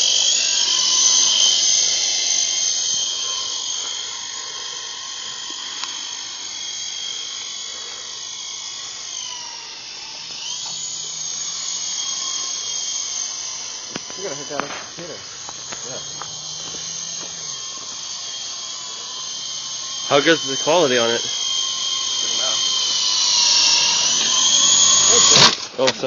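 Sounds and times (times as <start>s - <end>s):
toy helicopter motor whine: 0.0s - 26.0s.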